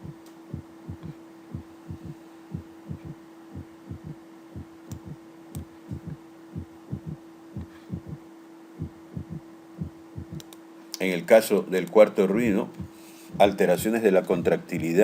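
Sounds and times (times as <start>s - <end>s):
heartbeat in galloping rhythm: 0.0s - 8.2s, 8.8s - 10.5s, 12.4s - 14.9s
steady low hum: 0.0s - 15.0s.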